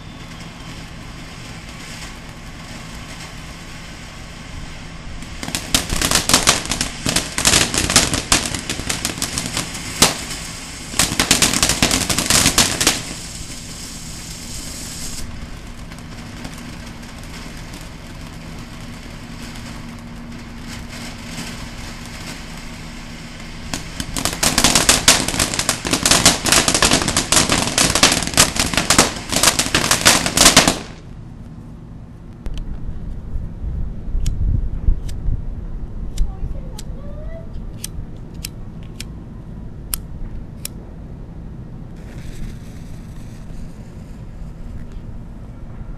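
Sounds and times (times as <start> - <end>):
firework fountain crackling: 0.0 - 31.6, 36.2 - 37.8, 41.6 - 45.7.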